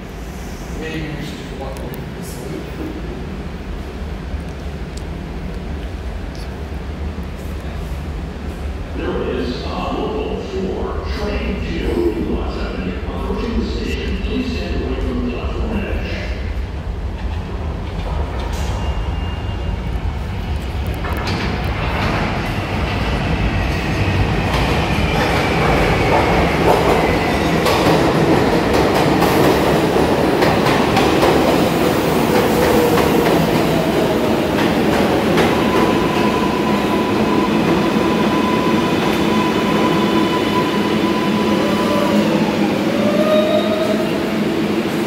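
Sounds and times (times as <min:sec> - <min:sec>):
steady train tones: 0:00.0 - 0:45.0
subway train rumble: 0:00.0 - 0:45.0.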